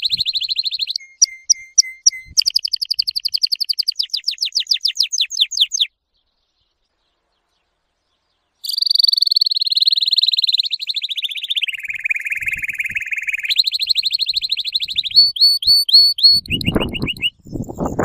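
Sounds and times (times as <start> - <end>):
canary singing: 0.0 - 5.9, 8.6 - 18.0.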